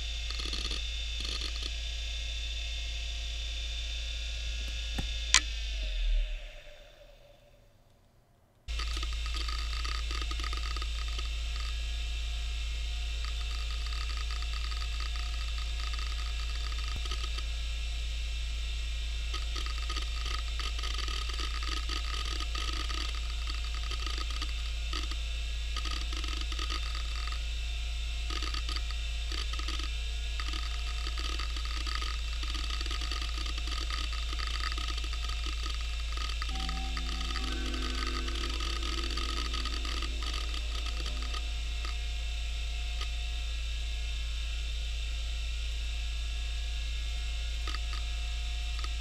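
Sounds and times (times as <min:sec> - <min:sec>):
hard drive spindle hum and whine: 0:00.0 - 0:49.0.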